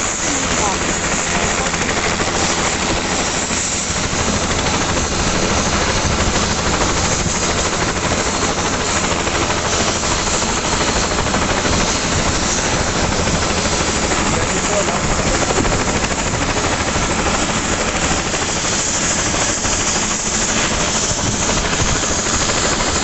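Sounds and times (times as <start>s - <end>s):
helicopter turbine and rotor roar: 0.0s - 23.0s.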